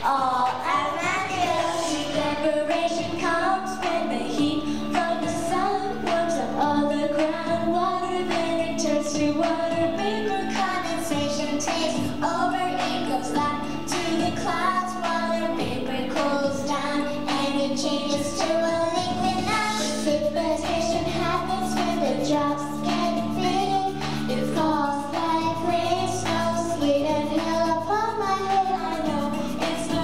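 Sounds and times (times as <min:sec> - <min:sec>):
children singing: 0:00.0 - 0:30.0.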